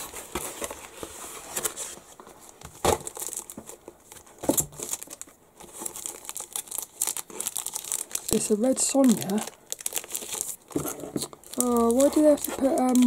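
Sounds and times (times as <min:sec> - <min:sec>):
plastic bags and cardboard rustling: 0:00.0 - 0:13.0.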